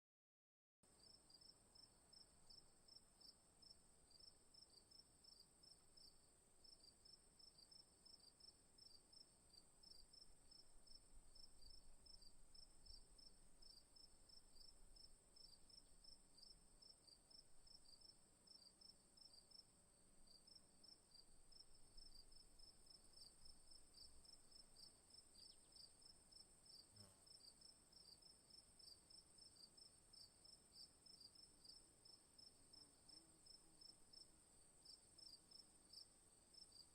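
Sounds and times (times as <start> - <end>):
lower cricket chirping: 0.9 - 36.9.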